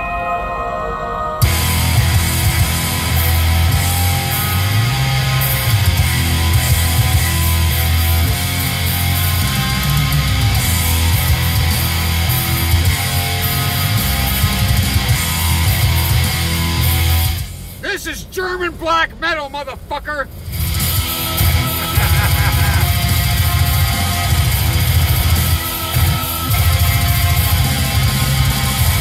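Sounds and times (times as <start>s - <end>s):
black metal music: 0.0s - 17.8s, 20.4s - 29.0s.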